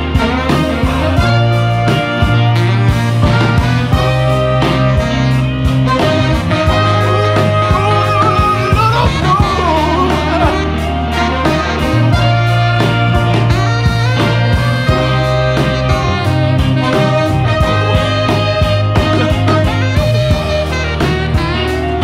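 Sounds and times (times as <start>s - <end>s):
music with guitar and beat: 0.0s - 22.0s.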